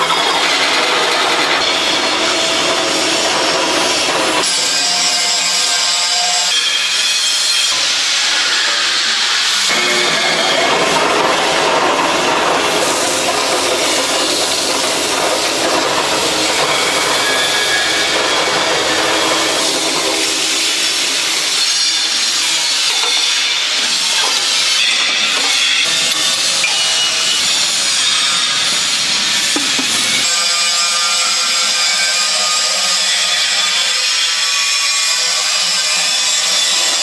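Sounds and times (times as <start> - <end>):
power tool cutting: 0.0 - 37.0.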